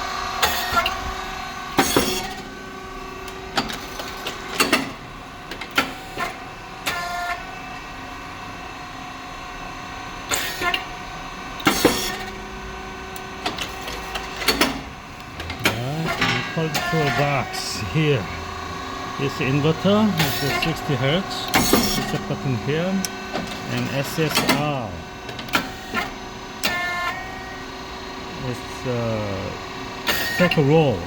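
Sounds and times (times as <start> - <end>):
motor and hydraulic pump hum: 0.0 - 31.0.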